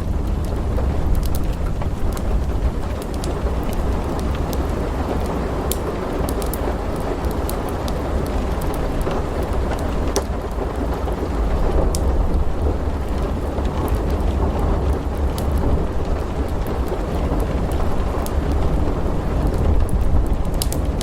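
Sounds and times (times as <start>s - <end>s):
low thunder rumble: 0.0s - 21.0s
steady rain: 0.0s - 21.0s
wood fire crackling: 0.0s - 21.0s.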